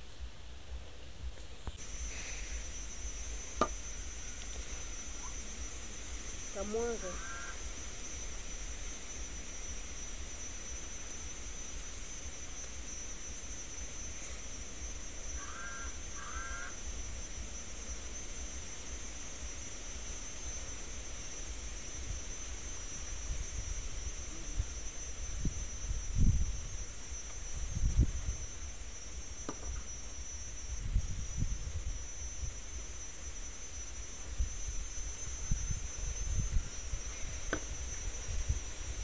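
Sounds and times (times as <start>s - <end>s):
high-pitched whine: 0.0s - 39.0s.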